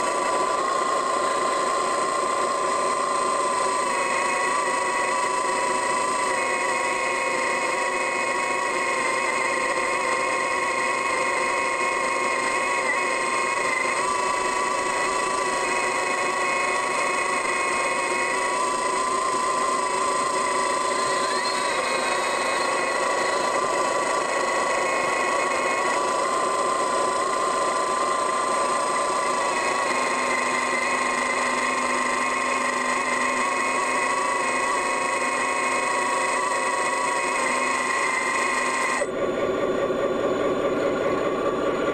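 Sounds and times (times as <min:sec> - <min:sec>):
trenching machine whining: 0:00.0 - 0:41.9.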